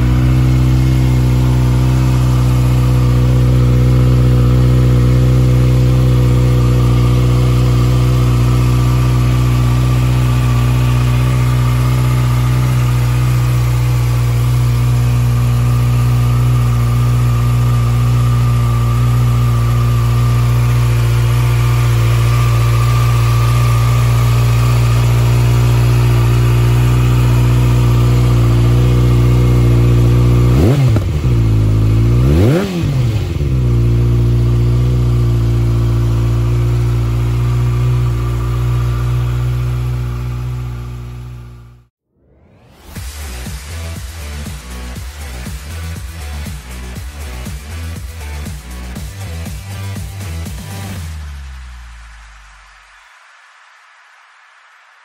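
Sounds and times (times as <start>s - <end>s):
motorcycle engine idling and revving: 0.0s - 42.0s, 42.7s - 52.5s.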